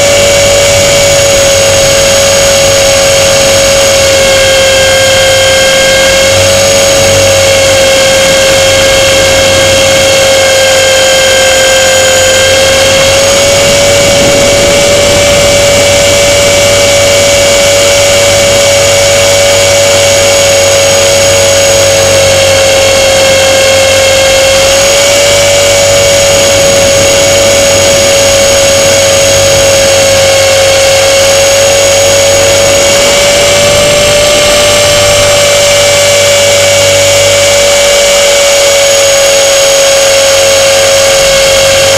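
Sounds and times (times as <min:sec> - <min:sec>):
model plane motor whine: 0:00.0 - 0:41.9.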